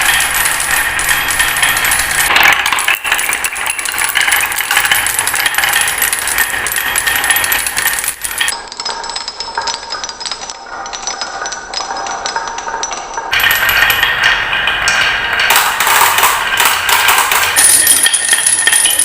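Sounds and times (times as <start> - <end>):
marbles rolling and clattering: 0.0 - 19.0.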